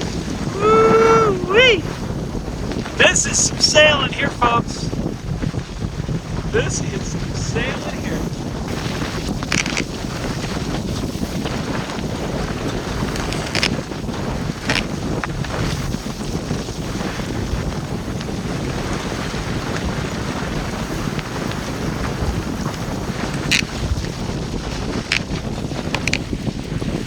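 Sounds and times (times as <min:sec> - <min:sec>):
waves washing against hull: 0:00.0 - 0:27.0
wind buffeting microphone: 0:00.0 - 0:27.0.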